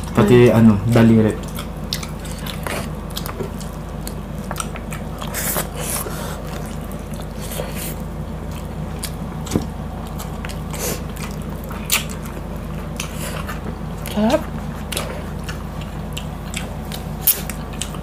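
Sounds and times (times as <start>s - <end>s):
steady low hum: 0.0s - 18.0s
wet chewing and smacking: 0.0s - 18.0s.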